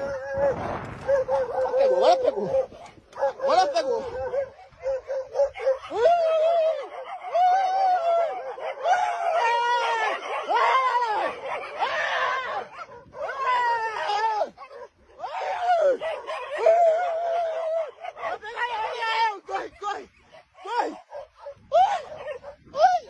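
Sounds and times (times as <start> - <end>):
dogs barking: 0.0 - 6.1, 6.7 - 23.0.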